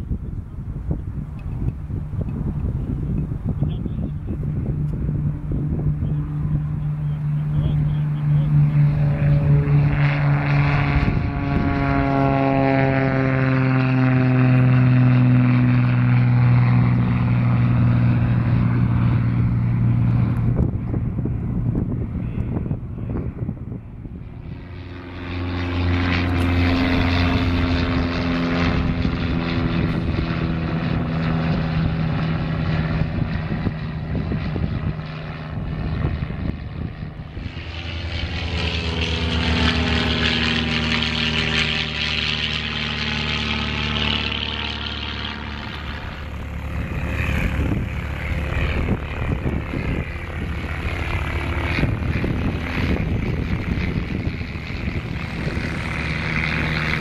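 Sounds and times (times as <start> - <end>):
light plane passing overhead: 0.0 - 57.0
propeller airplane engine drone: 0.0 - 57.0.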